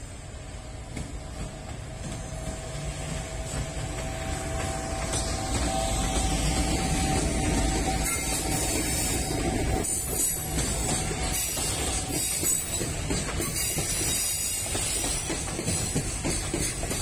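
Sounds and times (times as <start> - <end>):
freight train wheels clattering: 0.7 - 17.0.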